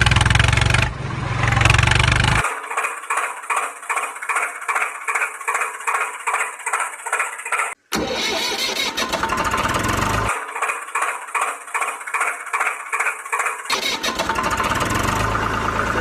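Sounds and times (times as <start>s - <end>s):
chugging engine sound effect: 0.0s - 16.0s
rough engine sound: 0.0s - 16.0s.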